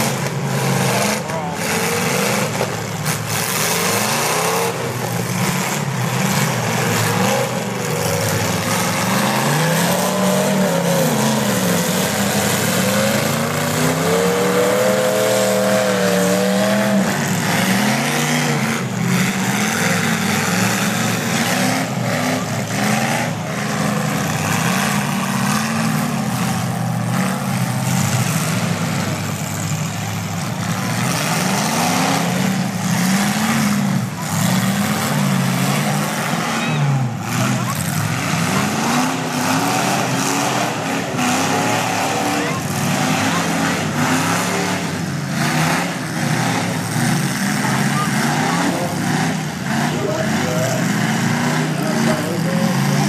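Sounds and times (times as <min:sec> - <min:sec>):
car engines revving hard: 0:00.0 - 0:53.0
loud continuous din: 0:00.0 - 0:53.0.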